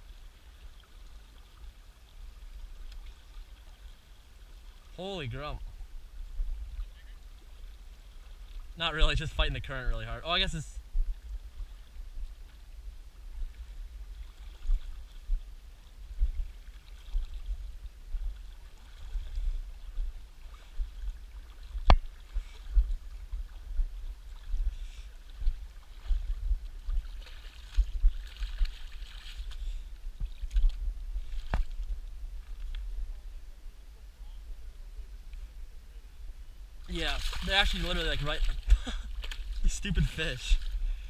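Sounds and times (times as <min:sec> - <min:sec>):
faint river current: 0:00.0 - 0:41.0.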